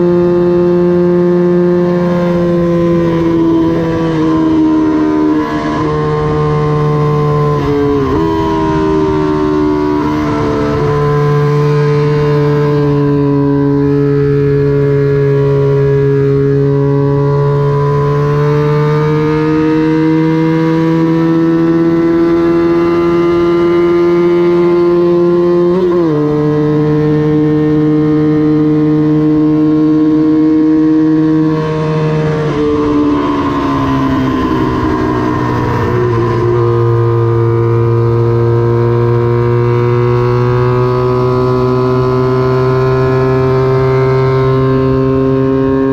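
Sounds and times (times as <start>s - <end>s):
motorcycle engine racing: 0.0s - 45.9s.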